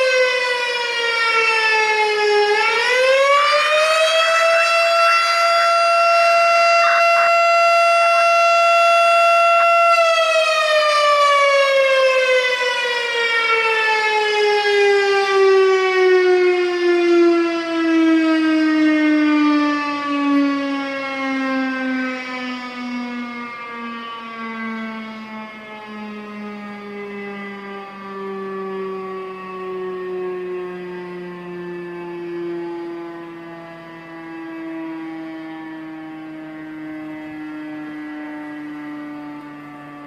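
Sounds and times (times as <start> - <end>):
air raid siren wailing: 0.0 - 40.0.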